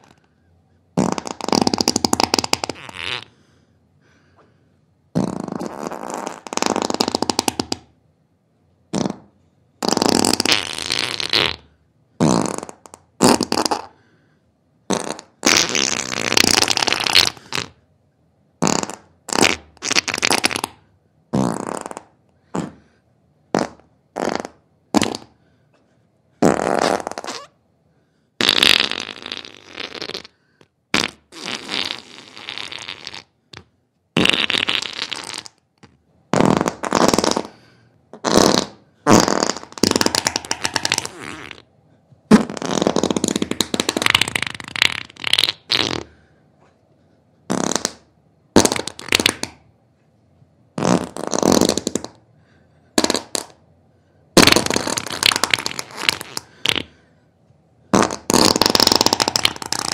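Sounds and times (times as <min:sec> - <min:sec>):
fart sounds: 0:00.0 - 0:00.3, 0:00.9 - 0:03.4, 0:05.1 - 0:08.0, 0:08.9 - 0:14.0, 0:14.8 - 0:17.8, 0:18.6 - 0:25.4, 0:26.4 - 0:27.6, 0:28.4 - 0:41.7, 0:42.3 - 0:46.3, 0:47.5 - 0:49.7, 0:50.8 - 0:52.3, 0:53.0 - 0:53.6, 0:54.4 - 0:57.0, 0:57.9 - 0:59.9.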